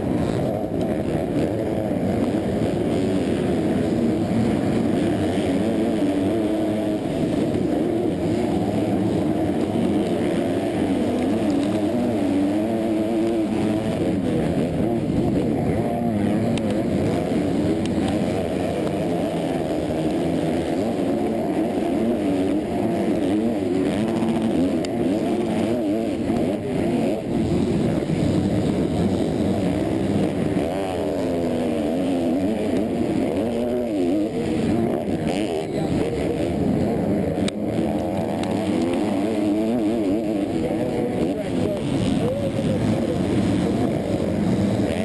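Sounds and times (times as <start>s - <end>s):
motocross bike engine revving: 0.0s - 45.0s
other motorbikes: 0.0s - 45.0s.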